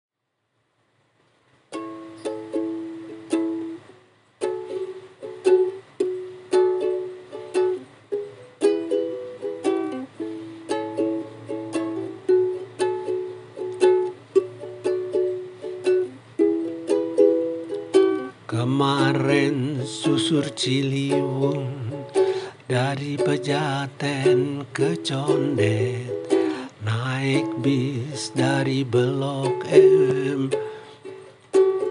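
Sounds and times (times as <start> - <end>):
solo ukulele melody: 1.7 - 31.9.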